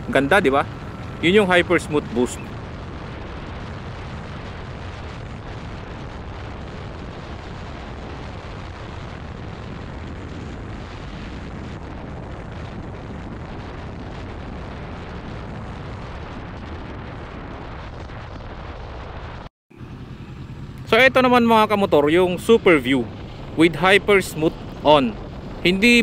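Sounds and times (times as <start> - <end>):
motorcycle running: 0.0 - 17.2, 19.7 - 26.0
wind buffeting microphone: 0.0 - 26.0.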